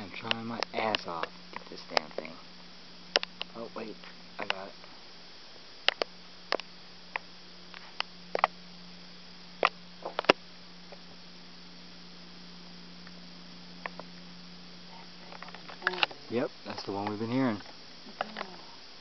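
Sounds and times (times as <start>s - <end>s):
faint hiss: 0.0s - 19.0s
low hum: 0.0s - 19.0s.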